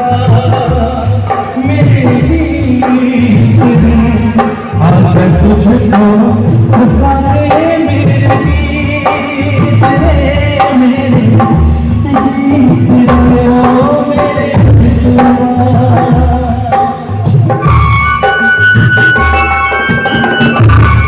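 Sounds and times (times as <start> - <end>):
song with heavy bass beats: 0.0 - 21.0.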